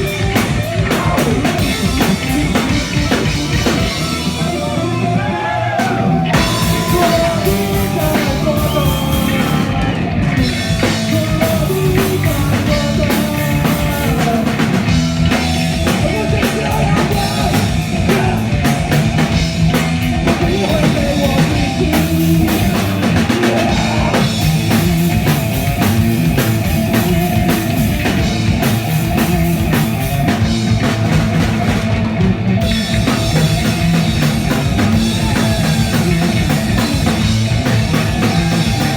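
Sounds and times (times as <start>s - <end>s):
drum kit beat: 0.0s - 5.1s, 5.8s - 38.9s
shouted vocals: 0.0s - 15.0s, 15.6s - 28.2s, 32.9s - 38.9s
bass guitar: 0.0s - 38.9s
distorted electric guitar: 0.0s - 38.9s.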